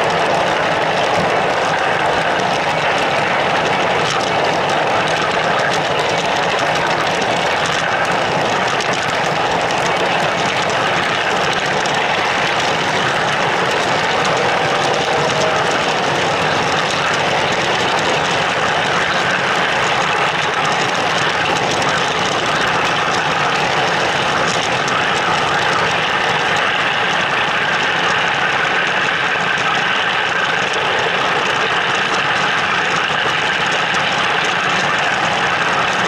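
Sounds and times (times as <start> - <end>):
model train wheels rolling: 0.0 - 36.0.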